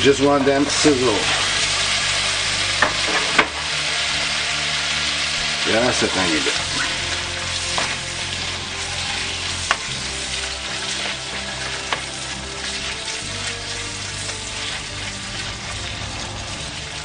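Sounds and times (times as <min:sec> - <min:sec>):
chicken sizzling in a wok: 0:00.0 - 0:17.0.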